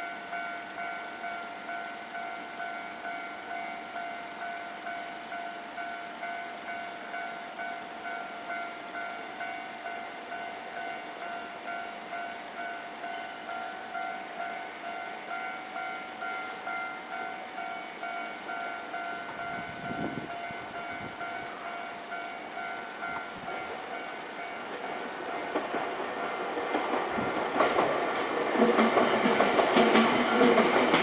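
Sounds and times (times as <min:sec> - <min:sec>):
level crossing warning bell: 0:00.0 - 0:31.0.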